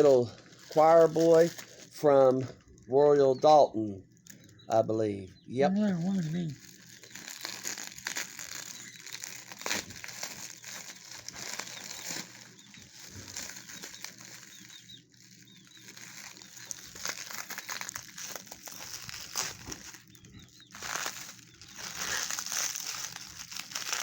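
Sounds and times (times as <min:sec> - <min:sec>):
packing material rustling: 0:00.0 - 0:02.8, 0:05.8 - 0:24.0.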